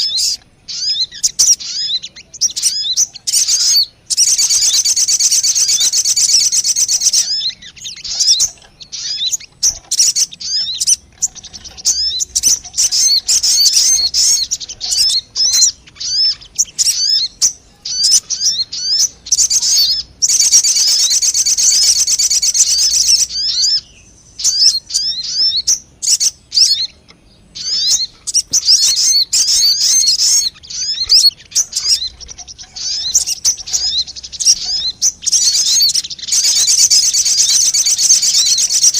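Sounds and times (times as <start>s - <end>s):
fast bird trilling: 0.0s - 27.0s, 27.6s - 38.9s
bird chattering twitters: 0.0s - 38.9s.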